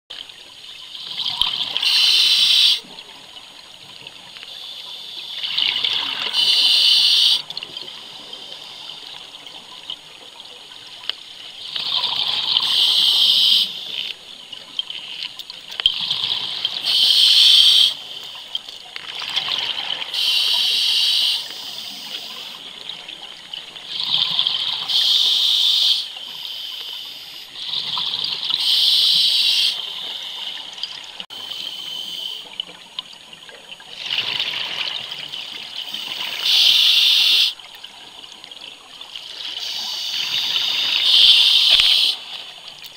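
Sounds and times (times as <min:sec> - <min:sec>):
hissing water: 0:00.9 - 0:03.0, 0:04.4 - 0:09.3, 0:11.6 - 0:14.2, 0:14.8 - 0:32.7, 0:33.9 - 0:38.4, 0:39.1 - 0:42.9.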